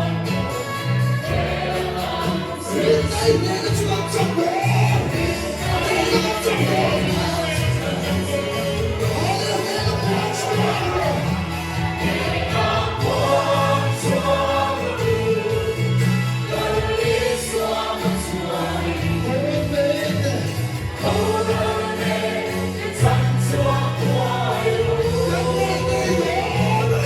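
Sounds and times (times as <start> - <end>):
choir singing: 0.0 - 27.0
sustained bass notes: 0.0 - 27.0.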